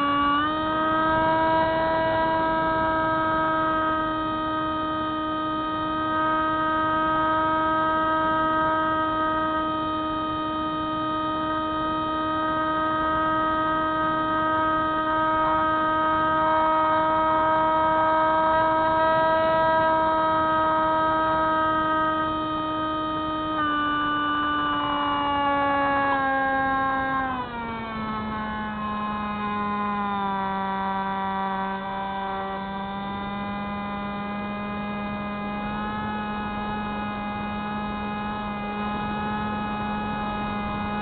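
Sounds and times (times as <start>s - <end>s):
model plane propeller drone: 0.0s - 41.0s.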